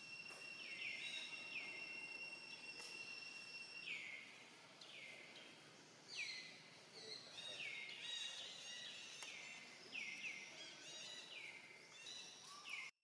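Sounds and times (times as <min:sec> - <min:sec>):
birds calling: 0:00.0 - 0:12.9.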